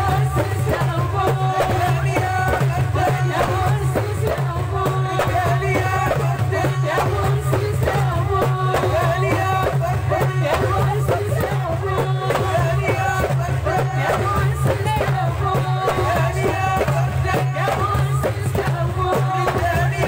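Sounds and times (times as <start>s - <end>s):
drums beating fast rhythm: 0.0s - 20.0s
person singing: 0.0s - 20.0s.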